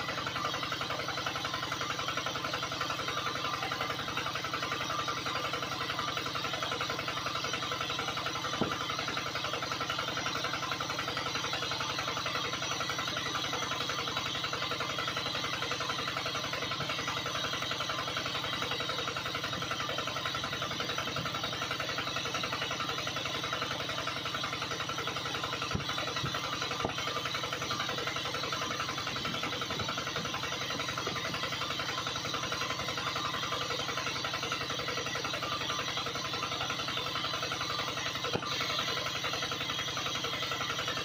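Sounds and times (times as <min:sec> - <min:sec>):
water pump motor running: 0:00.0 - 0:41.0.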